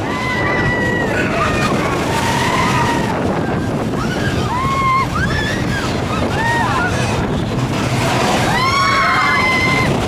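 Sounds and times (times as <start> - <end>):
riders whooping: 0.0 - 10.0
roller coaster cars rumbling: 0.0 - 10.0
wind rushing on microphone: 0.0 - 10.0.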